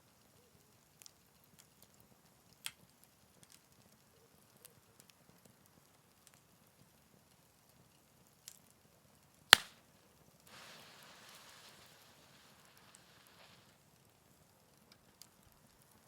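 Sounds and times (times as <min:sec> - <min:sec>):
campfire crackling with pops: 0:00.0 - 0:16.0.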